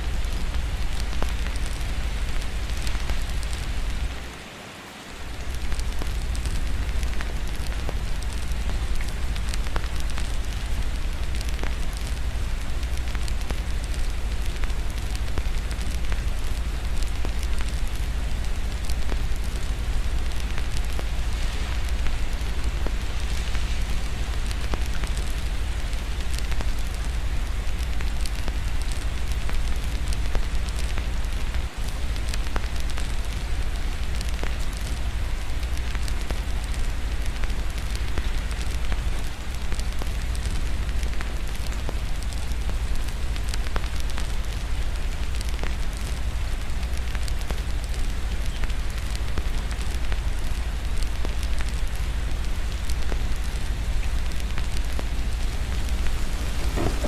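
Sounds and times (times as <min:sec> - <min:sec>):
constant low rumble: 0:00.0 - 0:04.4, 0:05.2 - 0:57.0
wood fire crackling: 0:00.0 - 0:04.4, 0:05.1 - 0:57.0
steady rain: 0:00.0 - 0:57.0.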